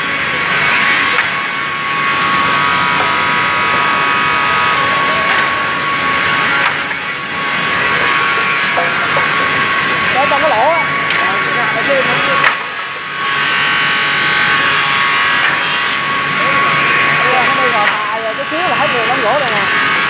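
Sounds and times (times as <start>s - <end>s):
rip saw cutting boards: 0.0s - 20.0s.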